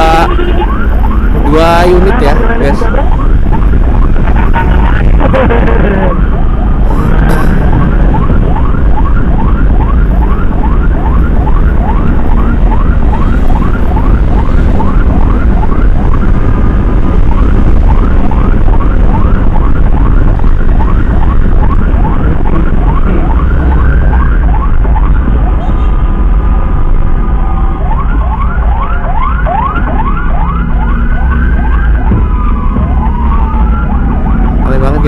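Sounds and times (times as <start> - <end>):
electronic siren yelping: 0.0 - 35.0
wind rumble: 0.0 - 35.0.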